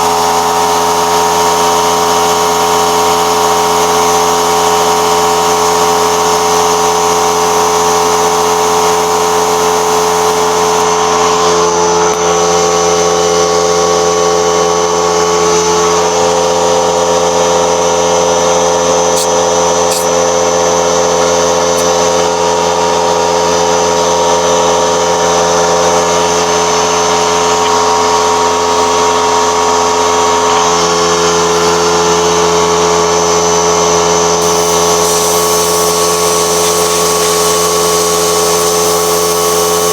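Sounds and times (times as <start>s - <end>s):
motor-driven machine humming: 6.8s - 13.8s, 14.6s - 39.9s.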